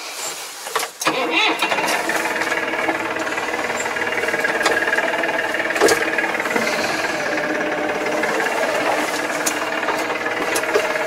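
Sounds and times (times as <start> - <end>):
rattling: 1.0 - 11.0
tractor diesel engine running: 1.0 - 11.0.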